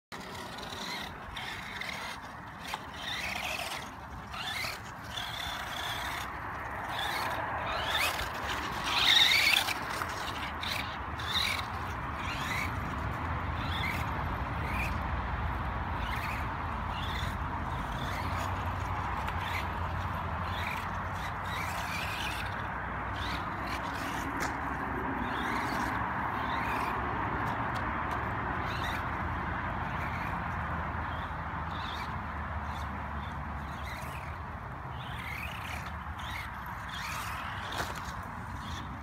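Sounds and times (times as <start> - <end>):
toy truck motor whining: 0.1 - 39.0.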